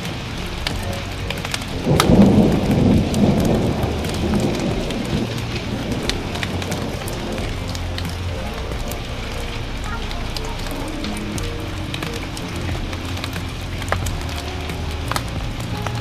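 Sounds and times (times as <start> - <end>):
steady rain: 0.0 - 16.0
thunder rumble: 0.0 - 16.0
wood fire crackling: 0.0 - 16.0.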